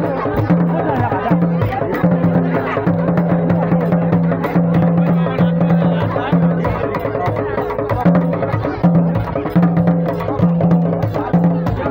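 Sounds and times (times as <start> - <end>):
djembe drums played by hand: 0.0 - 11.9.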